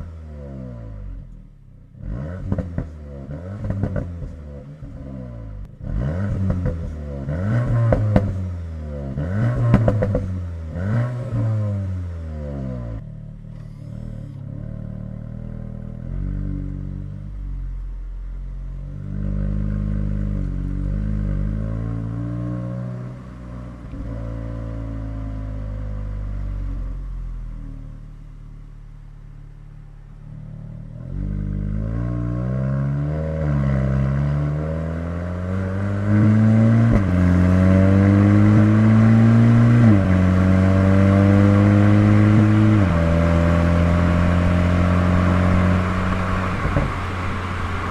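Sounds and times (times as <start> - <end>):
car accelerating hard with upshifts: 0.0 - 18.0, 18.7 - 28.2, 30.0 - 47.9
car engine revving: 0.0 - 47.9.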